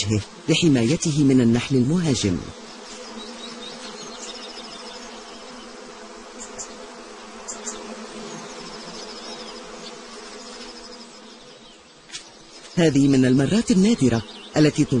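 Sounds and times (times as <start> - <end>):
wasps and bees buzzing: 0.0 - 15.0.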